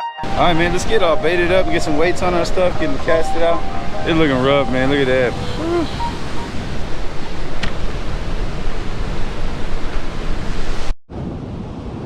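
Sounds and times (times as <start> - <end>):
rough surf: 0.2 - 12.0
wind on microphone: 0.2 - 12.0.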